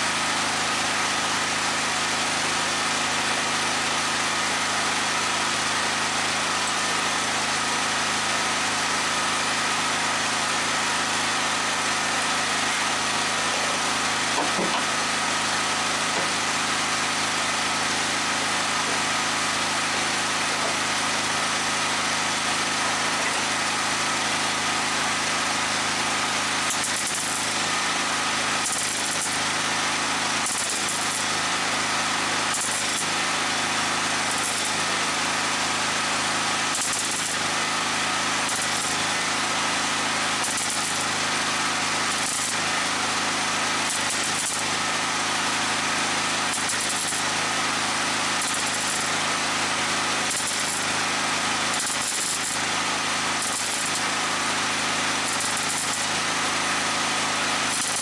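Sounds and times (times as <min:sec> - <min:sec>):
machine hum with hiss: 0:00.0 - 0:58.0.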